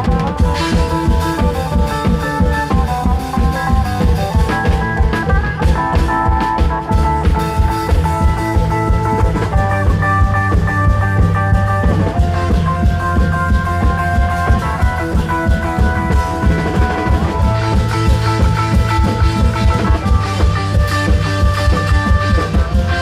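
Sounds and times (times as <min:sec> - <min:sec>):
fast driving drumming: 0:00.0 - 0:23.0
held melody line: 0:00.0 - 0:23.0.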